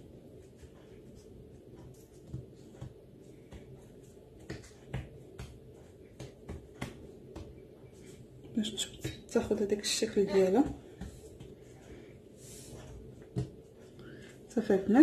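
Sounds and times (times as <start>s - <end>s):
low steady hum: 0.0s - 15.0s
hands pressing pastry: 0.2s - 14.6s
soft taps and crackles: 0.3s - 12.1s, 12.7s - 14.6s.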